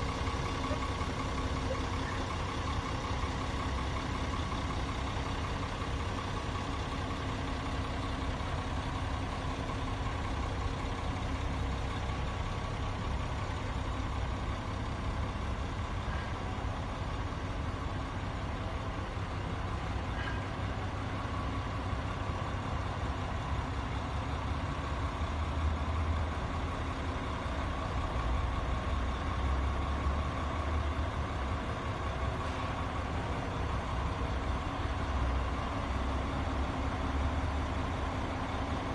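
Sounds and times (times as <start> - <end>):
drill rig engine idling: 0.0 - 38.9.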